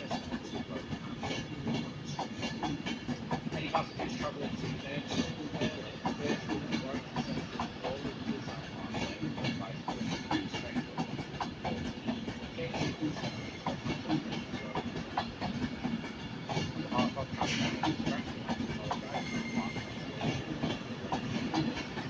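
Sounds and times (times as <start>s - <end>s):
train wheels clicking on track: 0.0s - 22.0s
voices talking: 0.0s - 22.0s.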